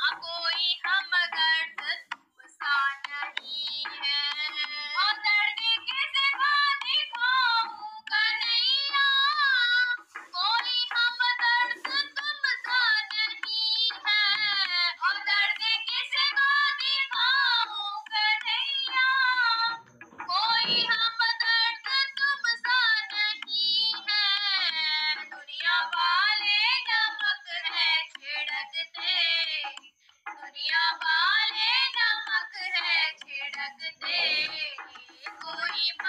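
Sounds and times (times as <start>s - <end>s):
person singing devotional song: 0.0s - 36.0s.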